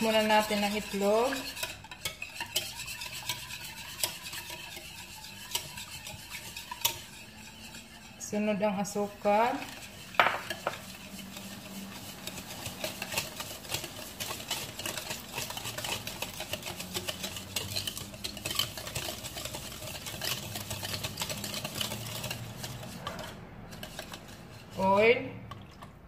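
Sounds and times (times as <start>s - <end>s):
whisk clicking against bowl: 0.0s - 26.0s.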